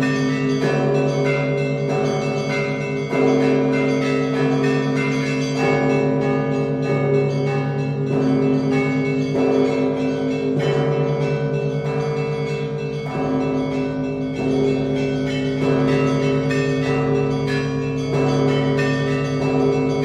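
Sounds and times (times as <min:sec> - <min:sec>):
deep church bell: 0:00.0 - 0:20.0
smaller bells ringing: 0:00.0 - 0:20.0.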